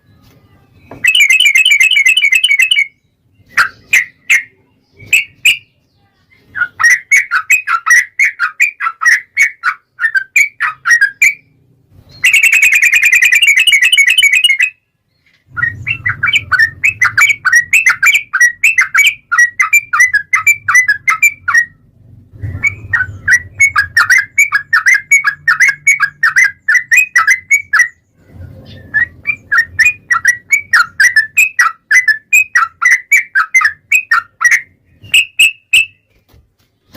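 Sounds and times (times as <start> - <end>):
harsh buzzy bird trill: 0.0 - 5.8, 6.4 - 14.9, 15.5 - 21.8, 22.4 - 36.2
bird chirping rapidly: 0.8 - 36.3.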